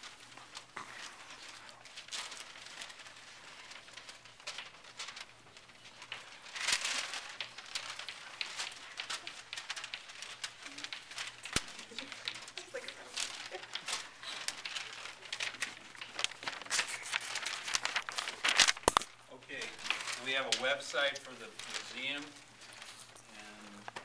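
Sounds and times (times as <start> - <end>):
paper rustling and crinkling: 0.0 - 24.0
shuffling: 0.0 - 24.0.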